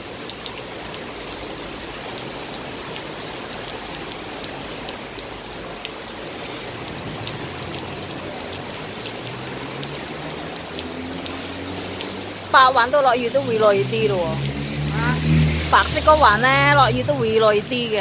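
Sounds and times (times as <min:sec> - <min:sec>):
heavy rain pouring: 0:00.0 - 0:18.0
raindrops ticking close by: 0:00.0 - 0:18.0.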